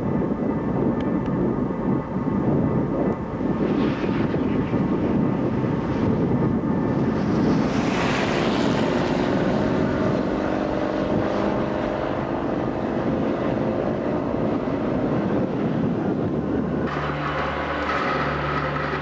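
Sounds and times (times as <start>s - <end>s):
roaring wind: 0.0s - 19.0s.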